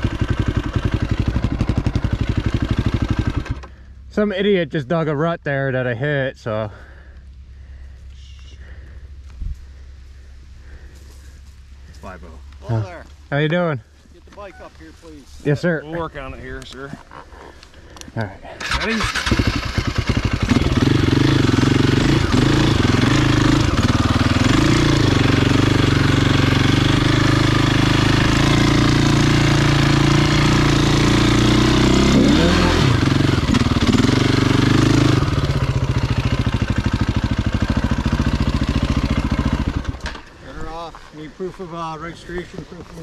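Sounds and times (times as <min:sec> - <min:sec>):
dirt bike engine running: 0:00.0 - 0:43.0.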